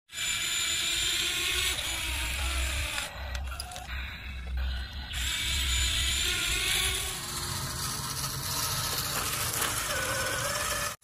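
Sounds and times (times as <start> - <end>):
toy electric motor running: 0.1 - 11.0.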